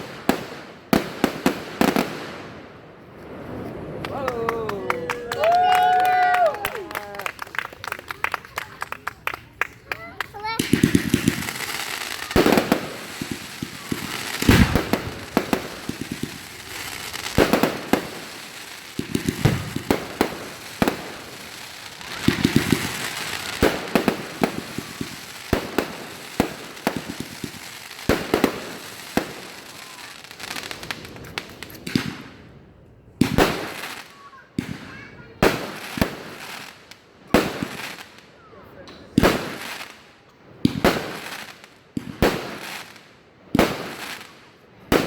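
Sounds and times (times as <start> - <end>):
fireworks bangs: 0.0 - 32.5, 33.2 - 38.2, 38.9 - 40.0, 40.6 - 45.0
fireworks crackling: 0.0 - 38.4, 39.0 - 45.0.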